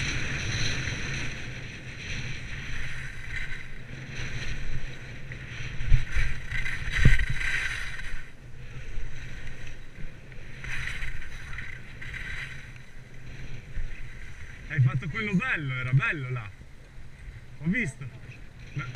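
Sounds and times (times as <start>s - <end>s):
low rumble: 0.0s - 18.9s
skis scraping on snow: 0.0s - 18.9s.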